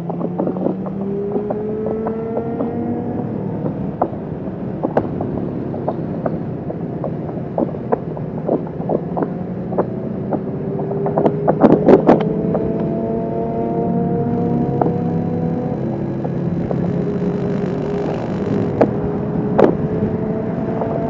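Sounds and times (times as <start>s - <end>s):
wind buffeting microphone: 0.0s - 13.0s, 14.1s - 21.0s
motorcycle engine accelerating: 0.0s - 21.0s.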